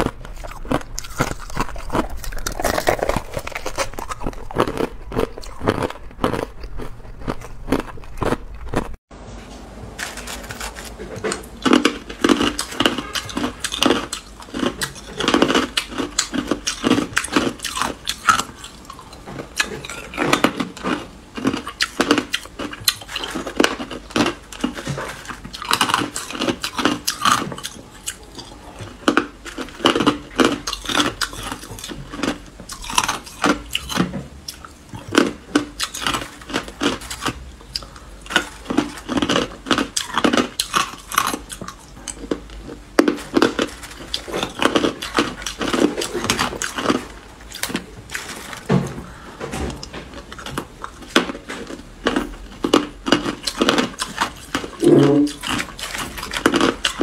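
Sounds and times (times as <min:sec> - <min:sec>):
person chewing ice: 0:00.0 - 0:09.0, 0:10.0 - 0:57.0.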